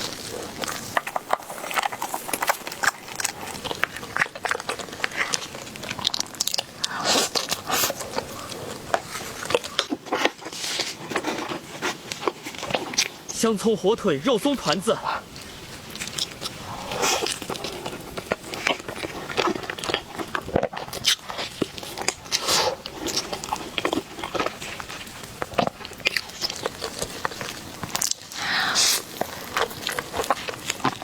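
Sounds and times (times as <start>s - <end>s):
crunchy chewing: 0.0s - 13.6s, 14.4s - 31.0s.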